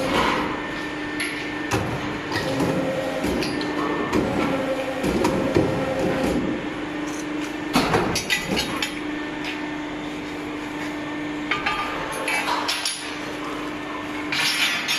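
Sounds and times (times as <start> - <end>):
machine humming: 0.0 - 14.4.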